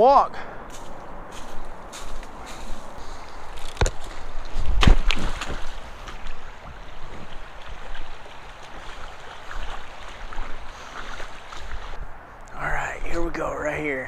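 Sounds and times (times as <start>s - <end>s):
creek water flowing: 0.5s - 14.0s
footsteps on a creek bank: 0.6s - 13.8s.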